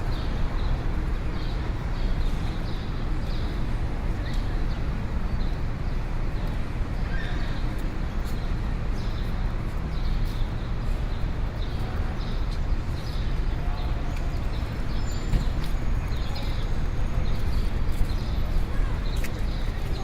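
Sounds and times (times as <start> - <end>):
traffic and crowd rumble: 0.0 - 20.0.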